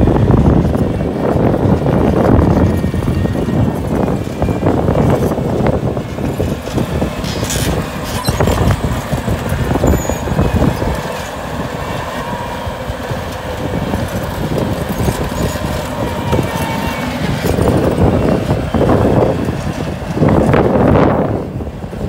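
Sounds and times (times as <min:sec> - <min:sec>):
diesel engine under load: 0:00.0 - 0:22.0
tracks and bucket clanking: 0:00.0 - 0:22.0.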